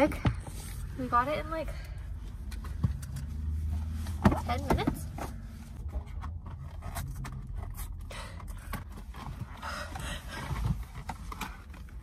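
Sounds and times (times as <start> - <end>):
low steady rumble: 0.0 - 12.0
rustling of masks and gloves: 0.0 - 12.0.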